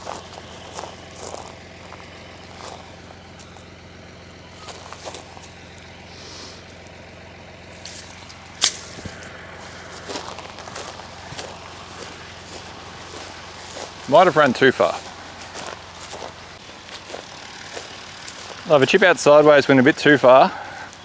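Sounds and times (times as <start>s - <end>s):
tractor engine humming: 0.0s - 21.0s.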